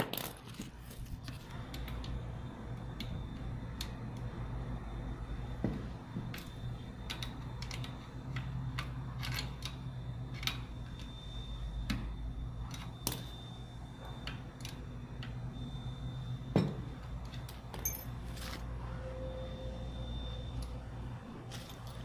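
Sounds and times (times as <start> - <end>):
steady low hum: 0.4 - 22.0.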